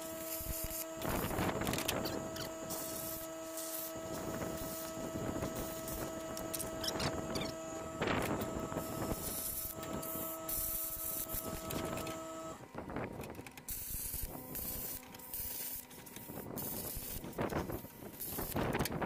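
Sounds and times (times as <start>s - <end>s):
plasma cutter hissing and buzzing: 0.0s - 12.5s, 13.7s - 18.9s.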